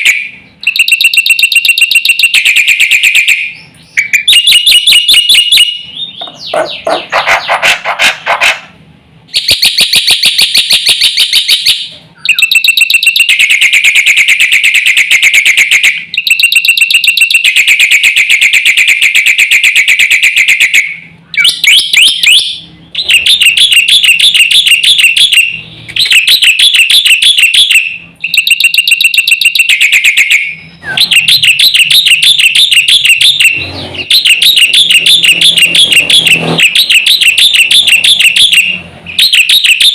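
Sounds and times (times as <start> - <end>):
bird singing chatter and whistles: 0.0 - 8.0, 9.4 - 39.9.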